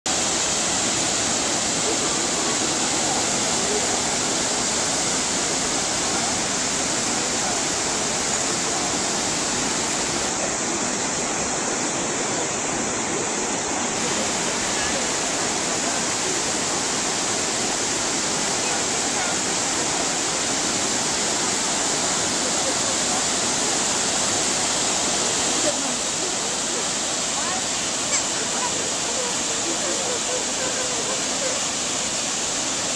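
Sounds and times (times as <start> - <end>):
waterfall roaring: 0.1 - 32.9.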